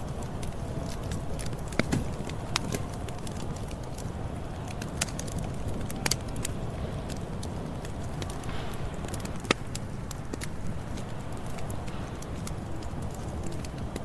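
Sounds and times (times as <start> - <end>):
campfire rumble: 0.0 - 14.0
fire crackles and pops: 0.0 - 14.0.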